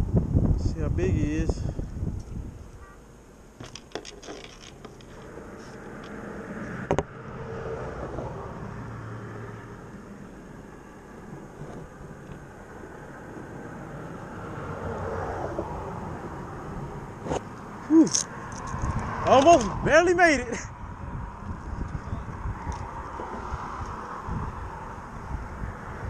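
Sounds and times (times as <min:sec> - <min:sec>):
road traffic passing: 0:01.4 - 0:26.0.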